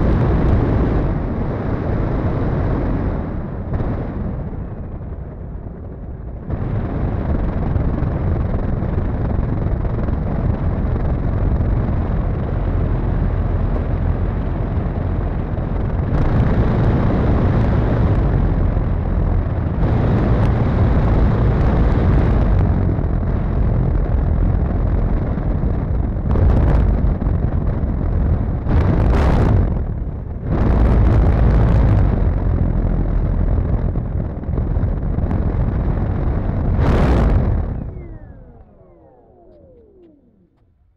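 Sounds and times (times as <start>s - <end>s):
model plane engine and propeller: 0.0s - 40.7s
wind rumble: 0.0s - 40.7s.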